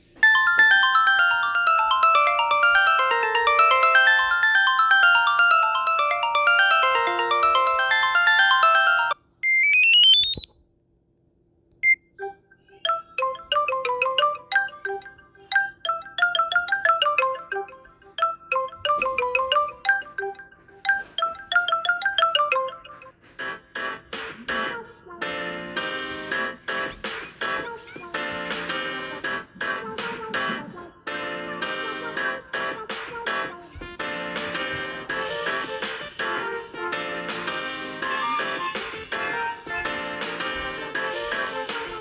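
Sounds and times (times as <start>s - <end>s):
phone ringtone melodies: 0.2s - 10.4s, 11.8s - 42.0s.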